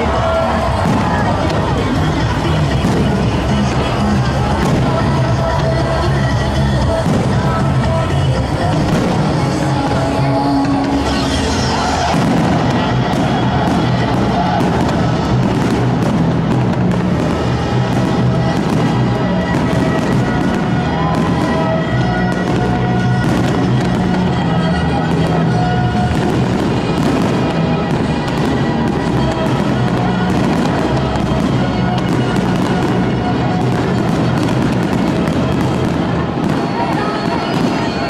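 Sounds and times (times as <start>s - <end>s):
fireworks crackling and banging: 0.0s - 38.0s
music: 0.0s - 38.0s.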